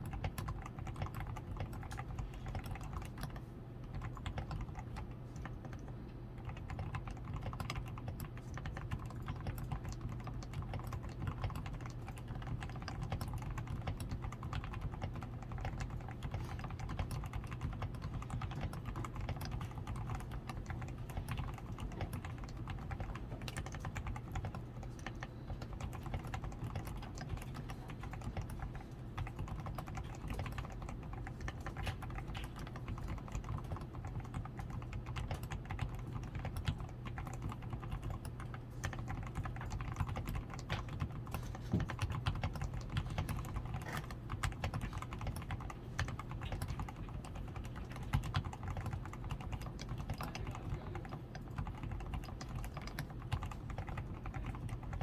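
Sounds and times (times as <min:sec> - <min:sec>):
typing on mechanical keyboard: 0:00.0 - 0:55.0.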